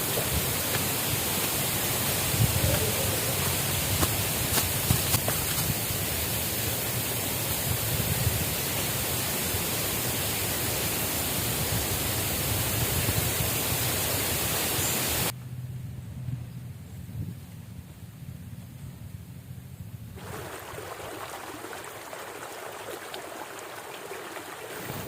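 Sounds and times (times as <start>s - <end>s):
water rushing: 0.0s - 15.3s, 20.2s - 25.0s.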